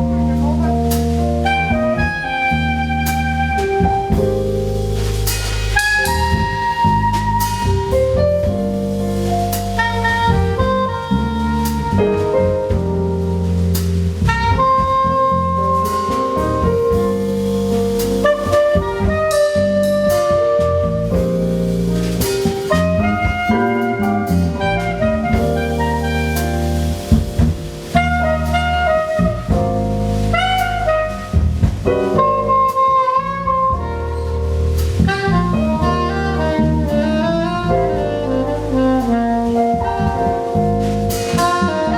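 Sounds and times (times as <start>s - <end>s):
drum kit: 0.0s - 41.9s
keyboards: 0.0s - 41.9s
low bass notes: 0.0s - 41.9s
soprano saxophone melody: 0.0s - 41.9s.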